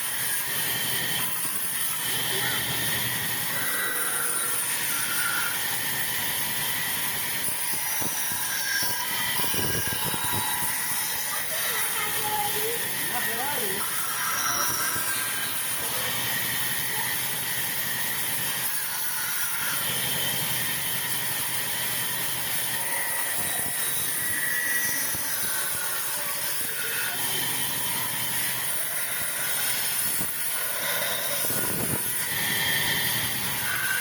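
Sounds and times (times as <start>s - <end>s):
saw cutting through log: 0.0s - 34.0s.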